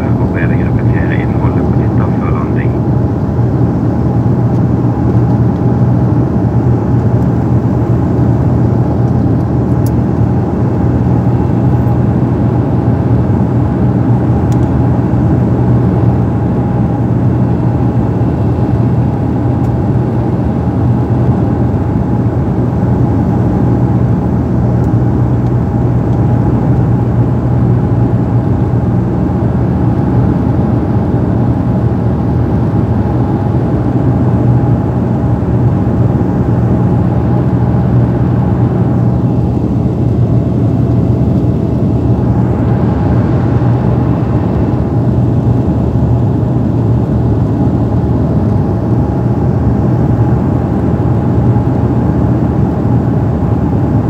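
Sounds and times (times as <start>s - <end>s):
turboprop engines droning in cabin: 0.0s - 54.0s.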